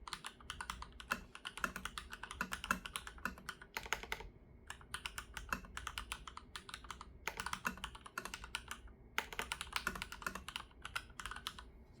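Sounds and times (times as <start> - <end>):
mechanical keyboard typing: 0.0 - 11.7.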